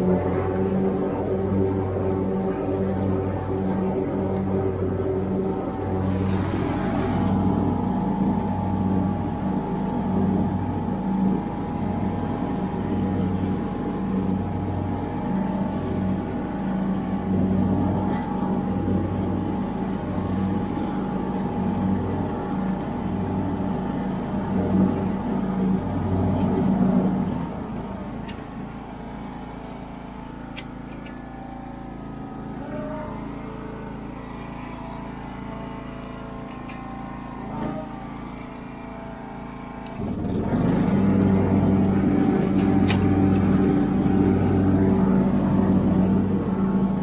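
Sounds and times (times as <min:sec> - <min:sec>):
lawn tractor engine droning: 0:00.0 - 0:47.0.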